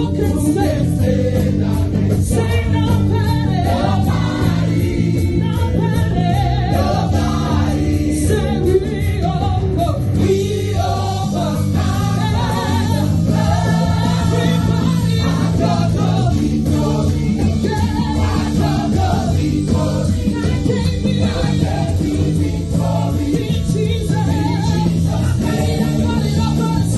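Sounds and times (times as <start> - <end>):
choir singing gospel song: 0.0 - 26.9.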